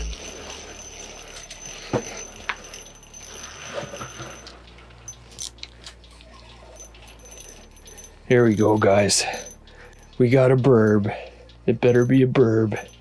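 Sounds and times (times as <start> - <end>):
faint steady hum: 0.0 - 13.0
fishing reel clicks and rattling: 0.0 - 13.0.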